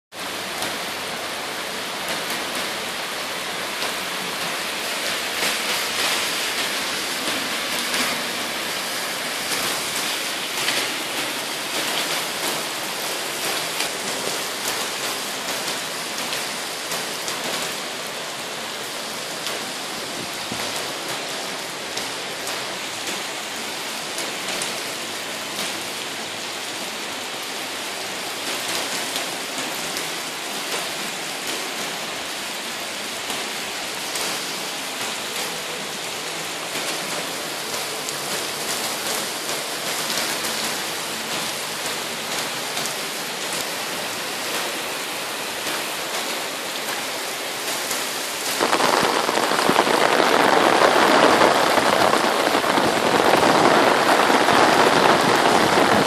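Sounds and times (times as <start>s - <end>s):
heavy rain on wet pavement: 0.1s - 56.0s.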